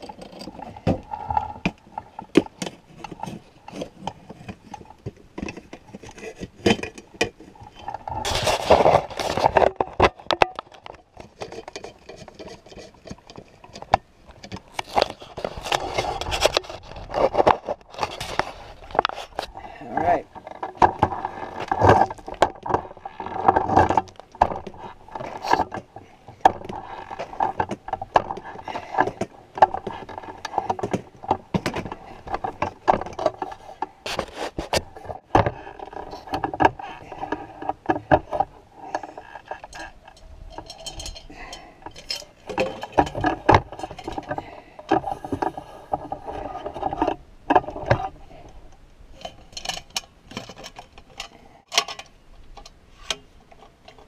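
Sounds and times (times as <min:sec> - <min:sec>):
objects being handled: 0:00.0 - 0:54.0.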